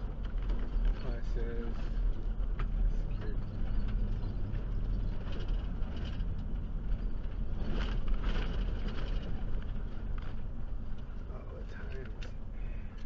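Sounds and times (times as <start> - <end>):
knocks and rattles: 0.0 - 11.1
van engine and road rumble: 0.0 - 13.0.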